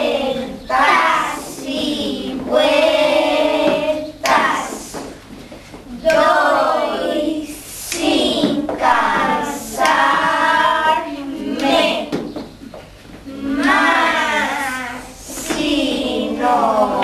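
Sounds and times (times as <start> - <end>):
children singing in unison: 0.0 - 5.3, 5.9 - 12.4, 13.2 - 17.0.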